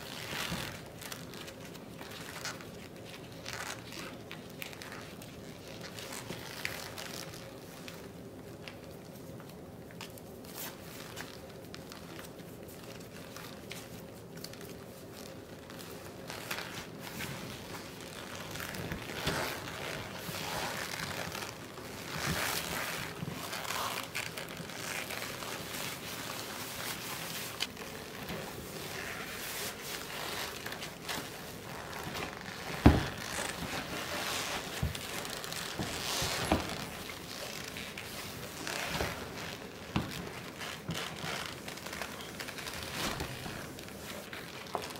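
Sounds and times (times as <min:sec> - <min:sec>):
leather rustling and creaking: 0:00.0 - 0:44.9.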